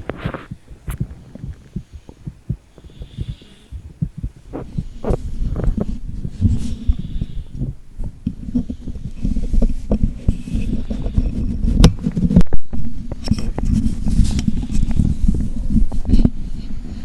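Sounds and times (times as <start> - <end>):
microphone knocks and scrapes on skin: 0.0 - 16.4
stomach rumbling and gurgling: 0.0 - 17.0.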